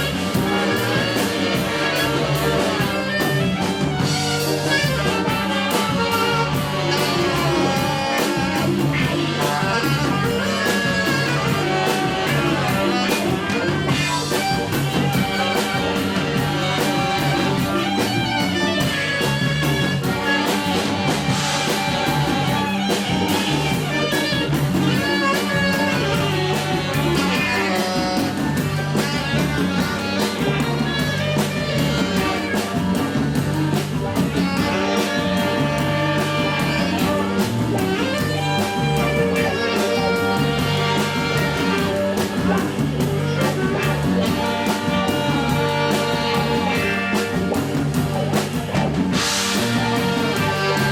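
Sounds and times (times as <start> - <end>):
drum kit beat: 0.0 - 50.9
guitar: 0.0 - 50.9
live jazz band playing: 0.0 - 50.9.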